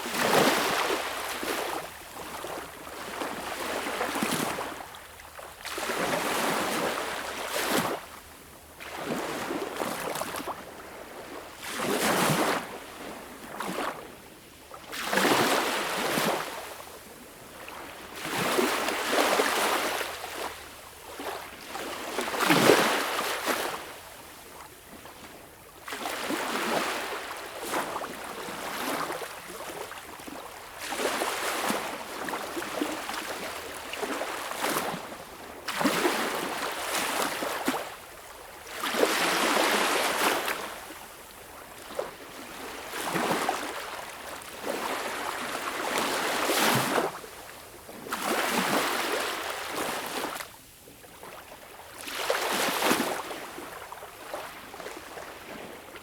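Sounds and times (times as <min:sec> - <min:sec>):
small waves lapping on shore: 0:00.0 - 0:08.2, 0:08.8 - 0:56.0.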